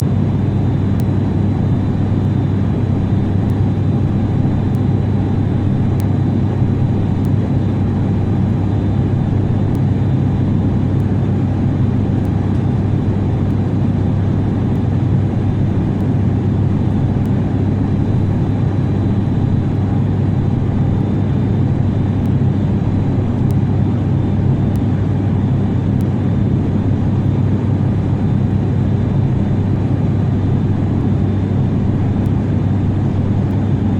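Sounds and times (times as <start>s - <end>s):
jet engine and airflow rumble: 0.0s - 33.9s.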